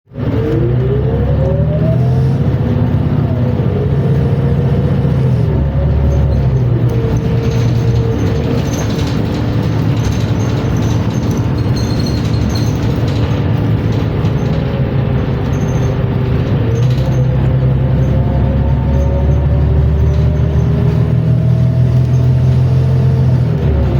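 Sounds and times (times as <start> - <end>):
bus transmission whining: 0.1 - 23.9
low engine rumble: 0.1 - 23.9.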